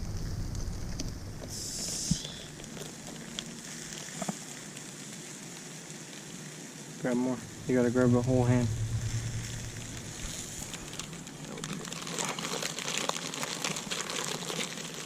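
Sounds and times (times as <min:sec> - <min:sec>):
campfire burning: 0:00.0 - 0:15.0
fire pops and crackles: 0:00.0 - 0:15.0.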